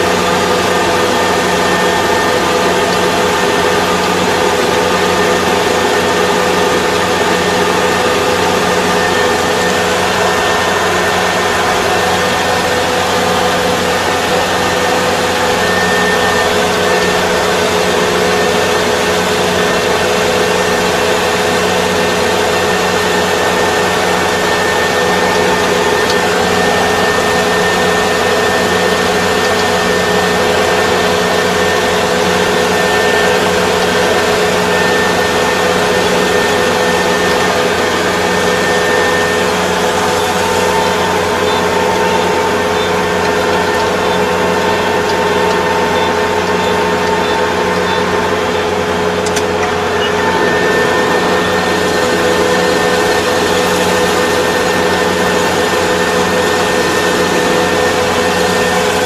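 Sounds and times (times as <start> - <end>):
combine harvester humming and whining: 0.0 - 59.0.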